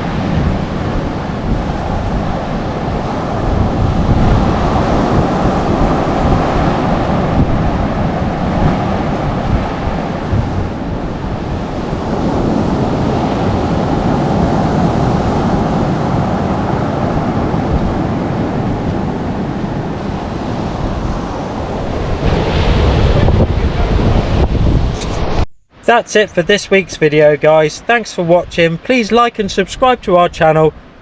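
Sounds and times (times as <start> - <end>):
wind buffeting microphone: 0.0 - 25.5.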